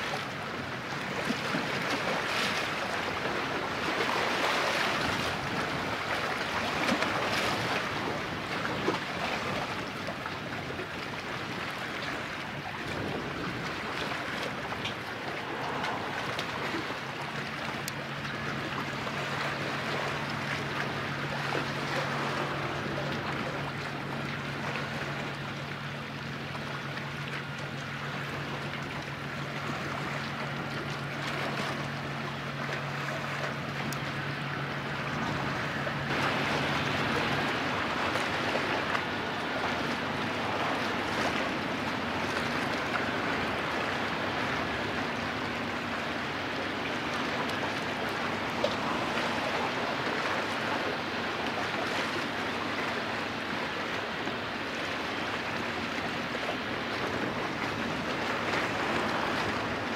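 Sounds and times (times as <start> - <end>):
low steady hum: 0.0 - 59.9
waves washing: 0.0 - 59.9
wind: 0.0 - 59.9.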